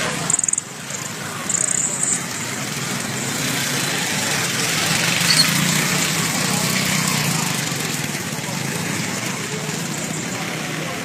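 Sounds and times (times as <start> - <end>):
faint voices: 0.0 - 11.0
motorcycle engine running: 0.0 - 11.0
street noise: 0.0 - 11.0.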